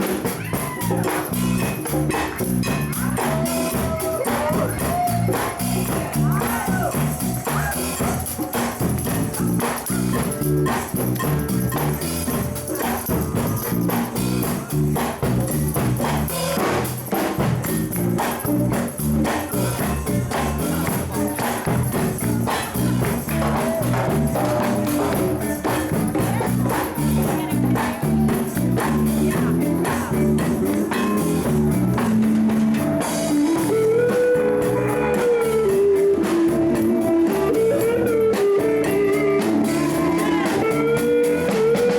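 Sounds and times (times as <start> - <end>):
drums: 0.0 - 41.9
guitar: 0.0 - 41.9
tambourine shaking: 0.0 - 41.9.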